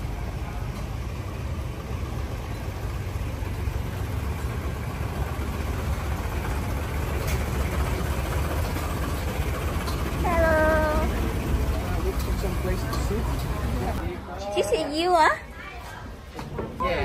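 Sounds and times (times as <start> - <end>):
boat engine running: 0.0 - 14.1.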